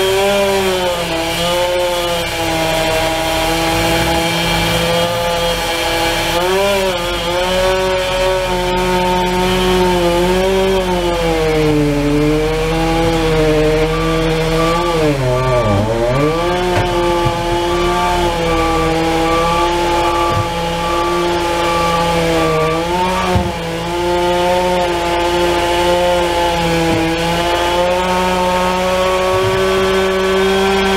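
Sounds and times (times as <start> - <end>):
chainsaw running at high revs: 0.0 - 30.9.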